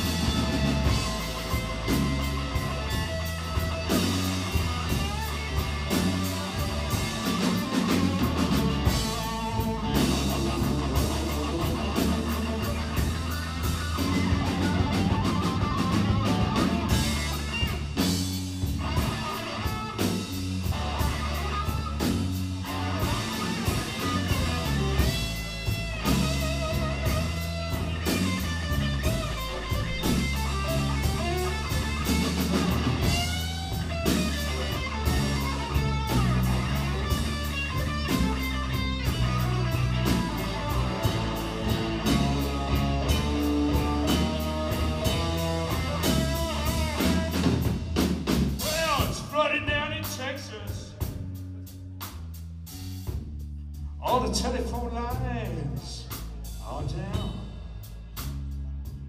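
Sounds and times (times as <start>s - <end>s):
electric guitar lead: 0.0s - 49.3s
bass guitar: 0.0s - 59.0s
drum kit: 0.0s - 59.0s.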